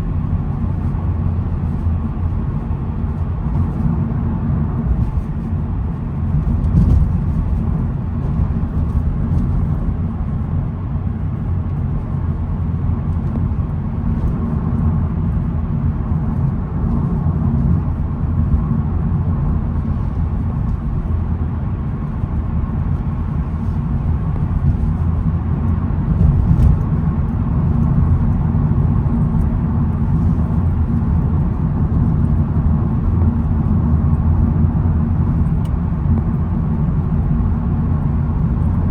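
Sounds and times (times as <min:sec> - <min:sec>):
engine and road noise rumble: 0:00.0 - 0:38.9.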